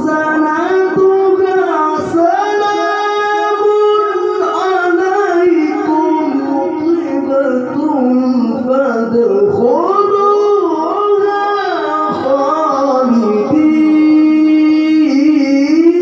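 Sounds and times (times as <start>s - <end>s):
man chanting through microphone: 0.0s - 16.0s.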